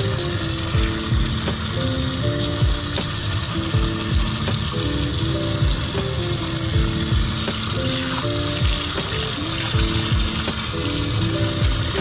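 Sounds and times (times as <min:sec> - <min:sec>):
background music with beat: 0:00.0 - 0:12.0
tap water running into sink: 0:00.0 - 0:12.0.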